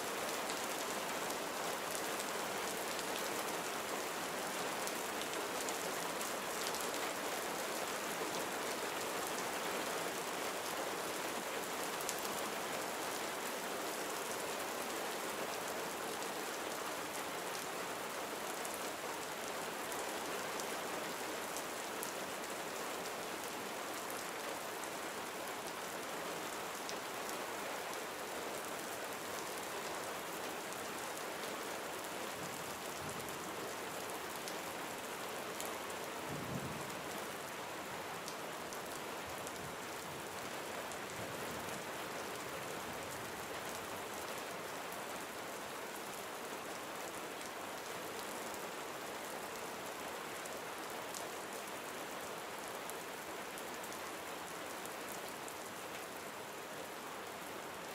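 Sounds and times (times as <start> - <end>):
gentle rain pattering: 0.0 - 57.9.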